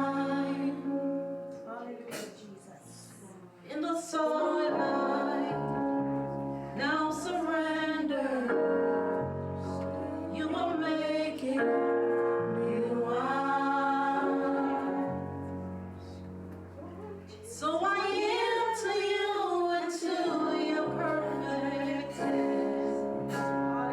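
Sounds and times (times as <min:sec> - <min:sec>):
voices singing held notes: 0:00.0 - 0:01.6, 0:03.7 - 0:23.9
sustained keyboard chords: 0:00.0 - 0:01.8, 0:04.2 - 0:23.9.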